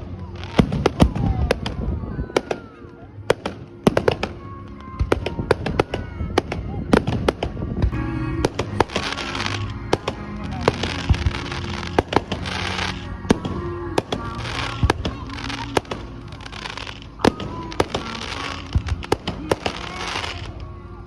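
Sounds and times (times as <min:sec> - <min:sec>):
fireworks bangs: 0:00.0 - 0:20.8
fireworks crackling: 0:00.0 - 0:21.0.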